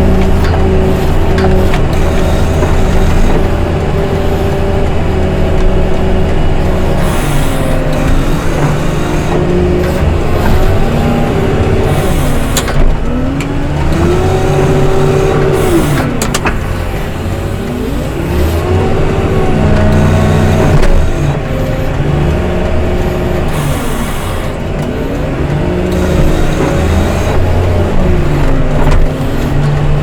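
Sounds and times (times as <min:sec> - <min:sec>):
diesel engine under load: 0:00.0 - 0:30.0.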